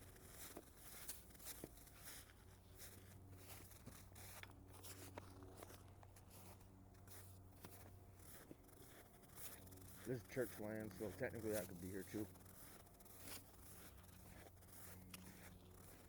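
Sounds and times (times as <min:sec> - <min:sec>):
footsteps crunching in snow: 0:00.0 - 0:16.0
steady low hum: 0:00.0 - 0:16.0.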